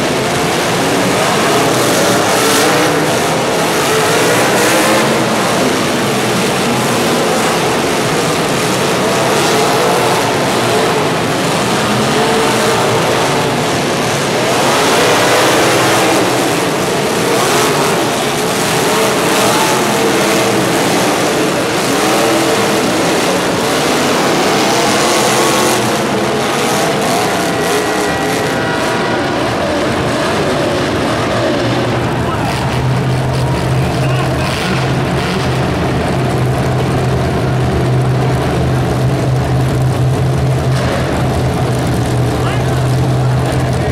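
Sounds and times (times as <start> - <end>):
engines revving: 0.0 - 43.9
loud rushing noise: 0.0 - 43.9.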